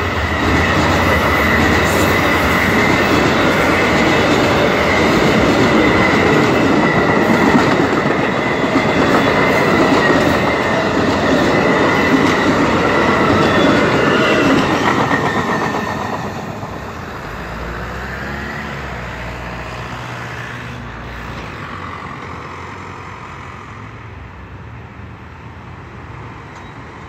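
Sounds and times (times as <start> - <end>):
train cars rolling on rails: 0.0 - 27.0.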